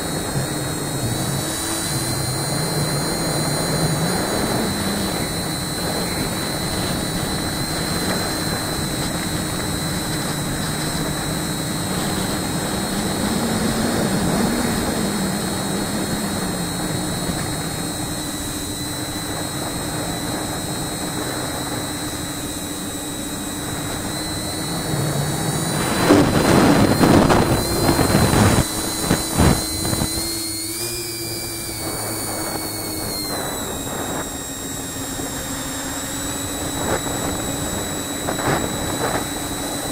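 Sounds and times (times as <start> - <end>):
loud gusty rushing noise: 0.0 - 39.9
propellers whining in flight: 0.0 - 39.9.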